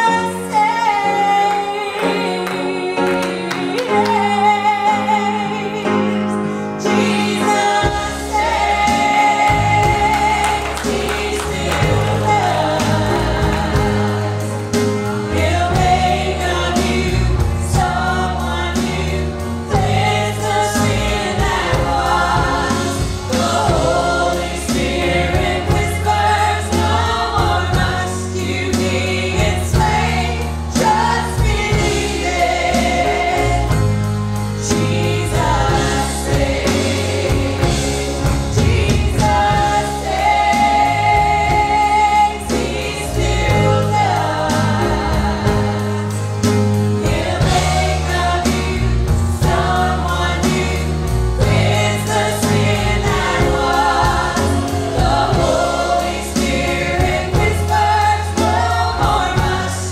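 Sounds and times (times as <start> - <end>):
band playing: 0.0 - 59.9
women singing in harmony: 0.0 - 59.9.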